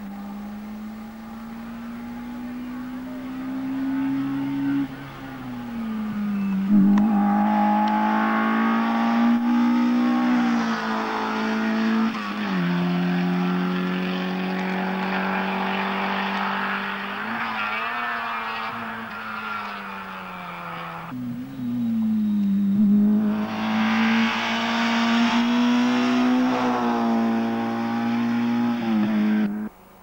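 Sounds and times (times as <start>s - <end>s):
rally car engine at high revs: 0.0s - 29.7s.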